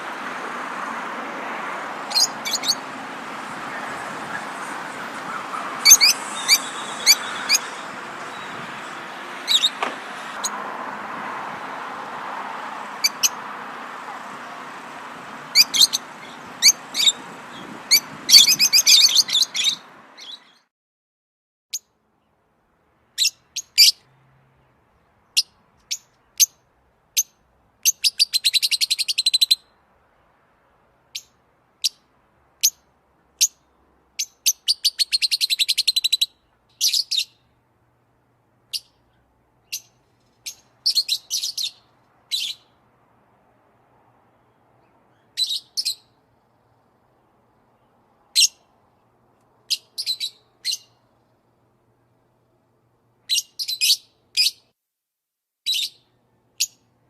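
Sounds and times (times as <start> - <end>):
songbird chirping: 0.0 - 20.7, 21.7 - 30.4, 31.0 - 37.7, 38.6 - 42.9, 44.0 - 51.6, 53.2 - 54.7.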